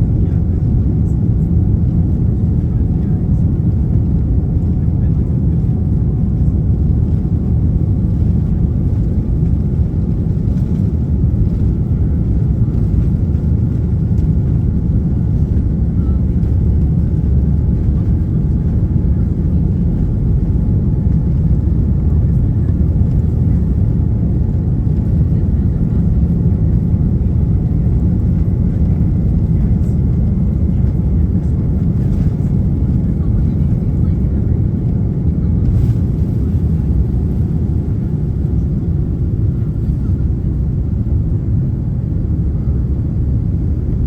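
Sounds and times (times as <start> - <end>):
jet engines roaring at takeoff: 0.0 - 44.0.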